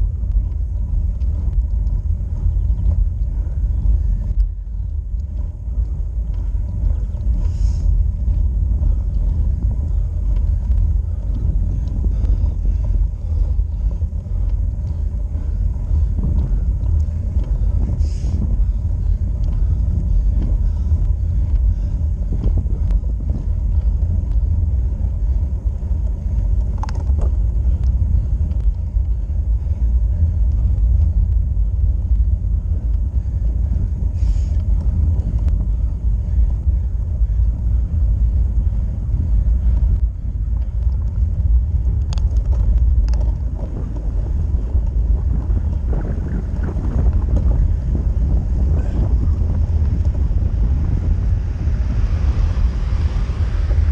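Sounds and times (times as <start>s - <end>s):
road vibration and wind rumble: 0.0s - 53.9s.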